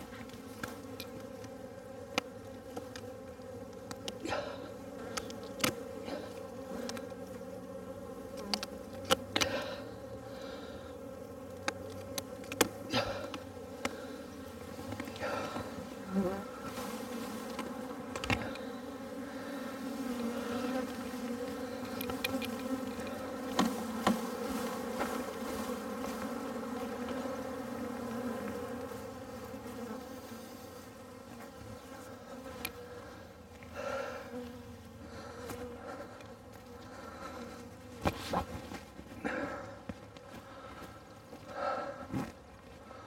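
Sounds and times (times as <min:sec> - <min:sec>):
bees buzzing: 0:00.0 - 0:43.0.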